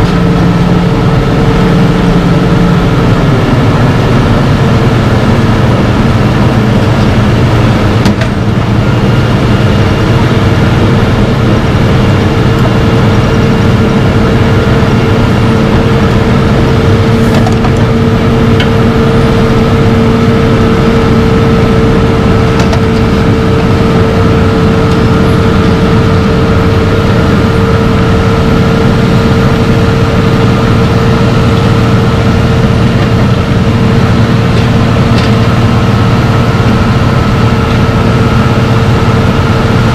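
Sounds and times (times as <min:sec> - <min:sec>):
milling machine droning: 0:00.0 - 0:39.9
steady whine: 0:00.0 - 0:39.9.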